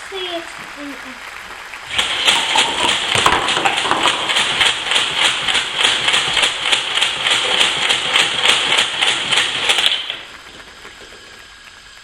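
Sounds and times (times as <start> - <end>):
rapid even clicks: 1.8 - 12.0
mechanical motor whir: 1.9 - 12.0.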